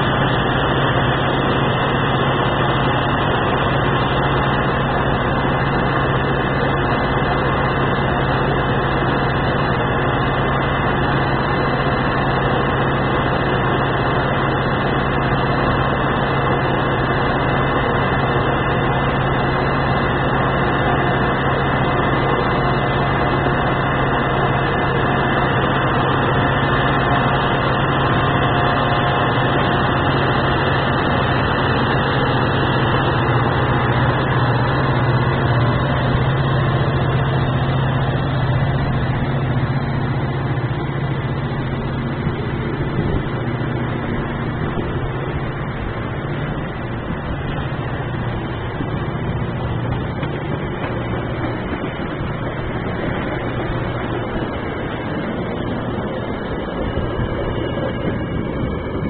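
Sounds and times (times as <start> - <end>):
diesel train engine hum: 0.0 - 59.0
train cars rumbling: 0.0 - 59.0.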